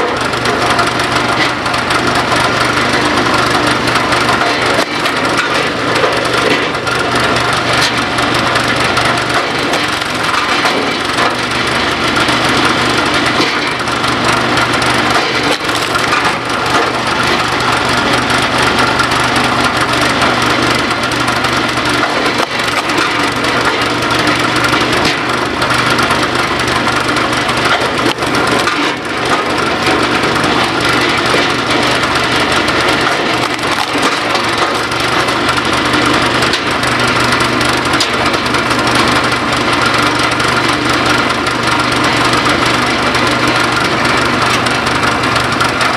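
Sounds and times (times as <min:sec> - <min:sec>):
small gas engine running: 0:00.0 - 0:45.9
wood cracking and splintering: 0:00.0 - 0:45.9.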